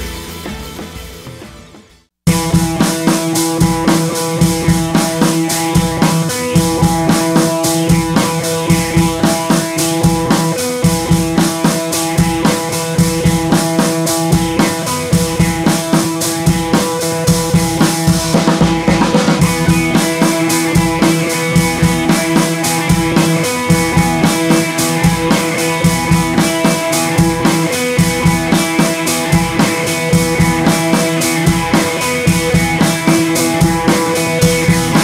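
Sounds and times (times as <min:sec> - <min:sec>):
drum-kit beat: 0:00.0 - 0:35.0.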